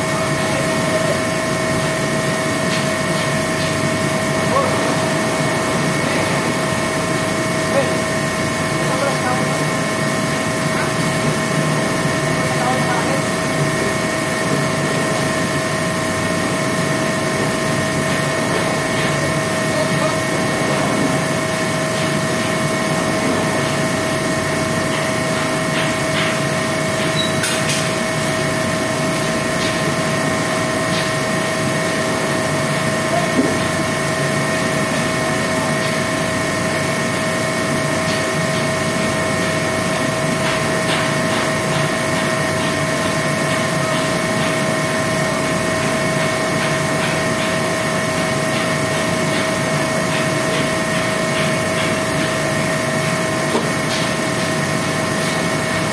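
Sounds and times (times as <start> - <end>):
machine humming with whining tones: 0.0 - 55.9.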